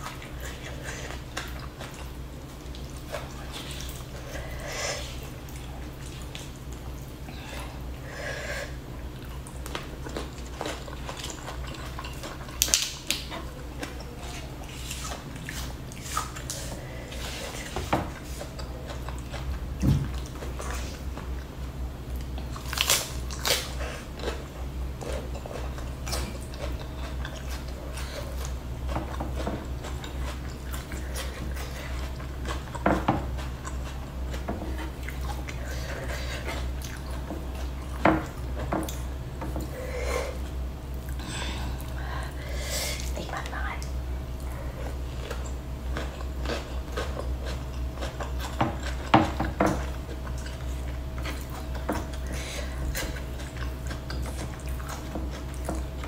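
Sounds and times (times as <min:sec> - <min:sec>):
chewing and biting food: 0:00.0 - 0:42.2, 0:43.8 - 0:56.0
steady low hum: 0:00.0 - 0:56.0.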